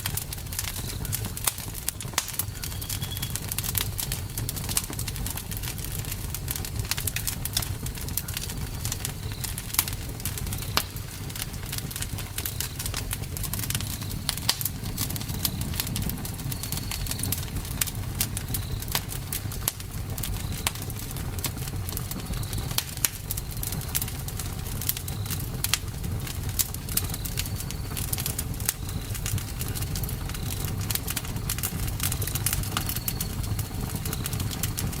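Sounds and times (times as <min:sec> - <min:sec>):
burning wood popping and crackling: 0:00.0 - 0:35.0
flames rumbling: 0:00.0 - 0:35.0.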